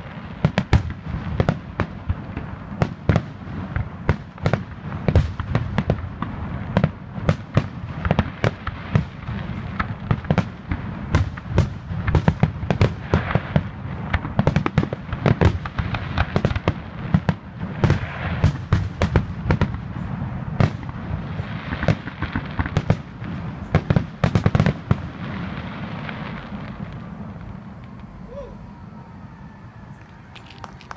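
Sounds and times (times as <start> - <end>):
firework barrage bangs: 0.0 - 28.0.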